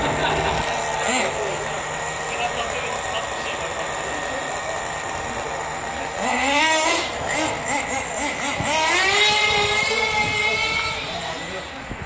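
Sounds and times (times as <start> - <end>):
rc car engine revving: 0.0 - 12.0.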